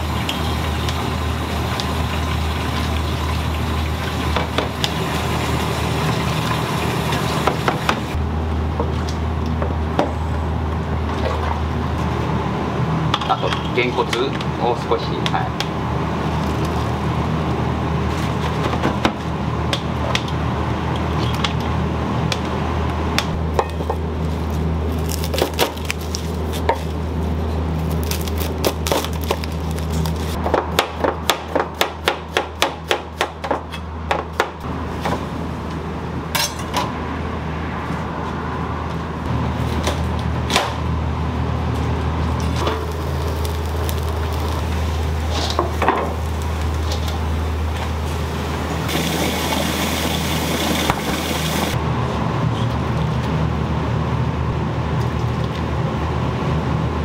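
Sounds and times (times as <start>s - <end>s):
low kitchen hum: 0.0s - 57.0s.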